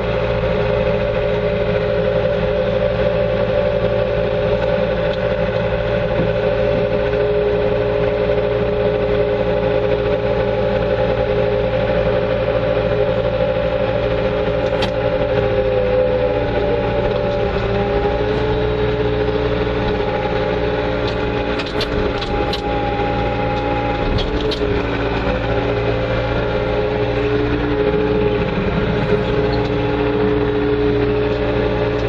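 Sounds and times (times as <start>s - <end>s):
loader engine running: 0.0s - 32.0s.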